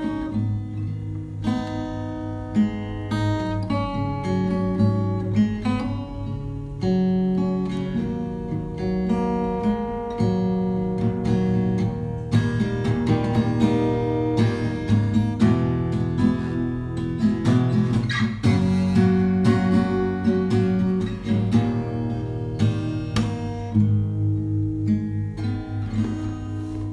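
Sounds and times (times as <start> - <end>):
guitar music: 0.0 - 26.9.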